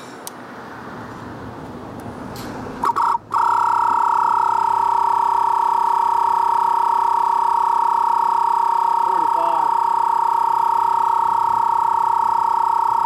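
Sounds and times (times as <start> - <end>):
tire inflator whining: 2.4 - 13.0.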